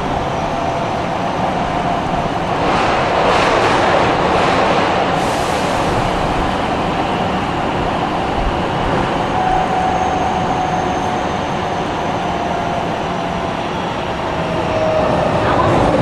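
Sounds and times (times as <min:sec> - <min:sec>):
train roaring through tunnel: 0:00.0 - 0:16.0.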